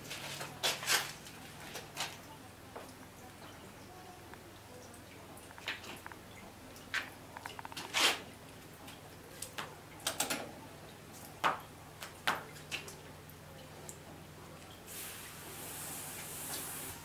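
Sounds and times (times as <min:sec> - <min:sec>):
water dripping and splashing: 0:00.0 - 0:17.0.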